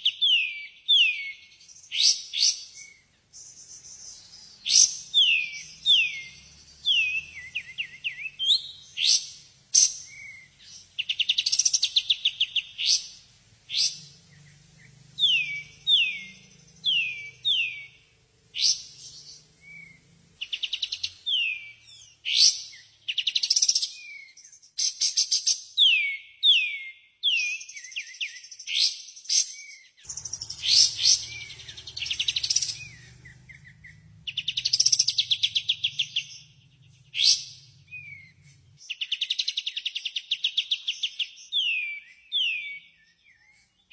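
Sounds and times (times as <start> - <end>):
bird singing whistles and trills: 0.0 - 43.9.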